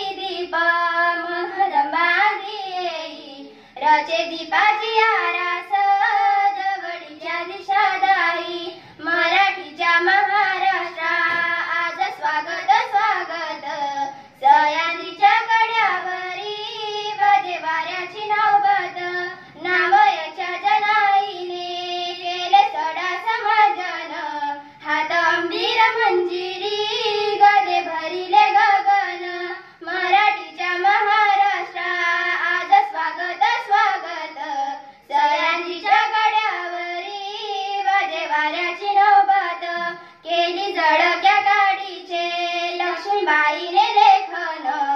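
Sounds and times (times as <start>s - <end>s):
girls singing into a microphone: 0.0s - 44.9s.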